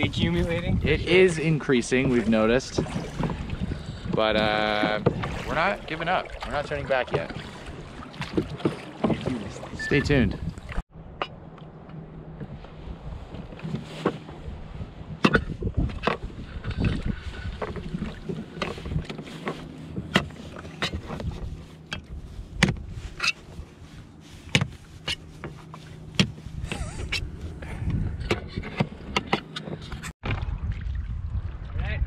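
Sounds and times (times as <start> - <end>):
water slapping against hull: 0.0 - 31.8
oars knocking against boat: 1.9 - 12.6, 13.3 - 23.7, 24.4 - 30.4.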